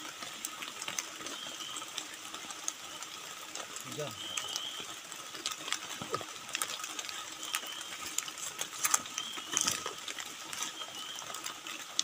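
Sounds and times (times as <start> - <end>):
rain dripping on tent fabric: 0.0 - 12.0.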